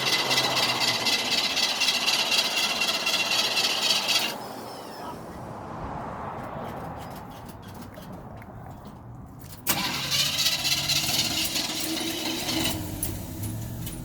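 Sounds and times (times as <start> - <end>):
truck engine cranking and starting: 0.0 - 5.6, 6.4 - 14.0.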